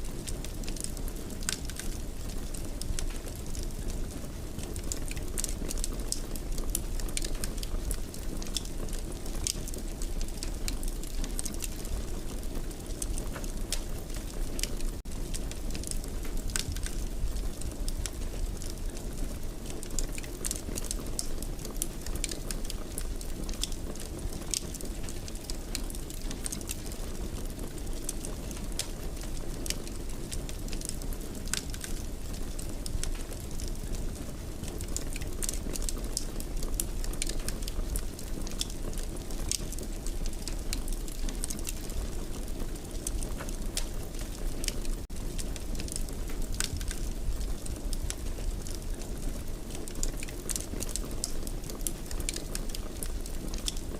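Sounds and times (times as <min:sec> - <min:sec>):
fire crackling in fireplace: 0:00.0 - 0:53.9.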